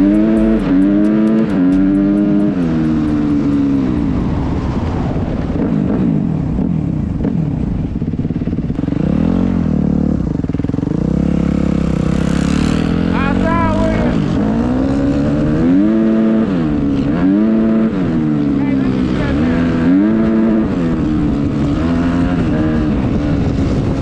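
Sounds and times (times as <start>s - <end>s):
dirt bike engine revving: 0.0s - 4.8s, 8.8s - 23.2s.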